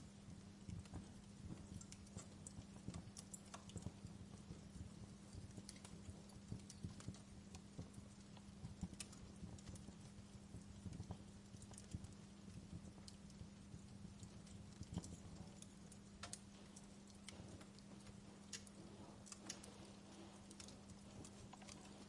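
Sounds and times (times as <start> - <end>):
low steady hum: 0.0 - 22.0
wood fire crackling: 0.0 - 22.0.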